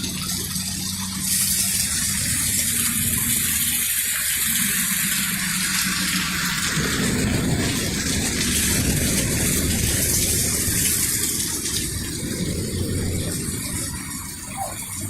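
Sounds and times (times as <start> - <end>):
low rumble: 0.0 - 15.0
water rushing hiss: 0.0 - 15.0.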